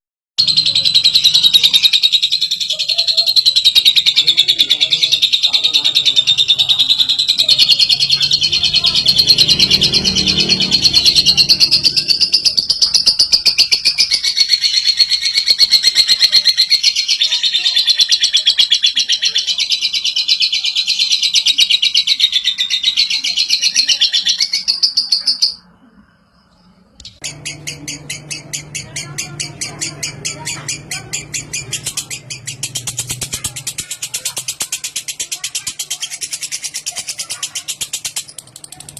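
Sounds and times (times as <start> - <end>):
lovebird chattering trill: 0.4 - 25.6, 27.0 - 38.9.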